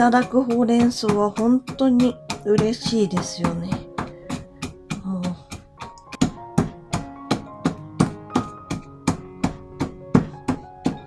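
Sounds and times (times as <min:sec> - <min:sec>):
background music: 0:00.0 - 0:11.0
pestle pounding walnuts in mortar: 0:00.0 - 0:11.0.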